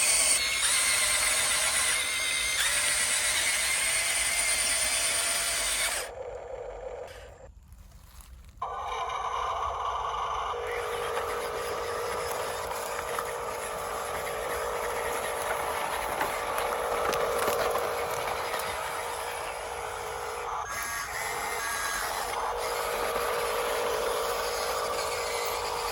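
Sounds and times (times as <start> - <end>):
toy truck electric motor whine: 0.0 - 7.6, 8.6 - 25.9.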